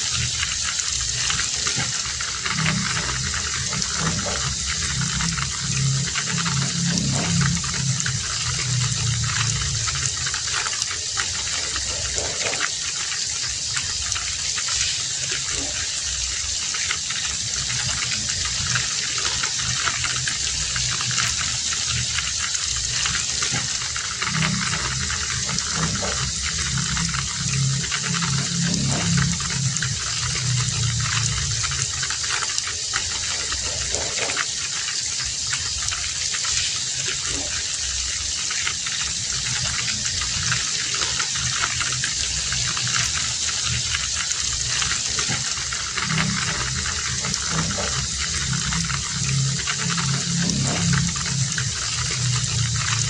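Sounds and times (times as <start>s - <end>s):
heavy rain falling: 0.0s - 53.0s
low rumble: 0.1s - 12.8s, 17.2s - 34.3s, 39.3s - 53.0s.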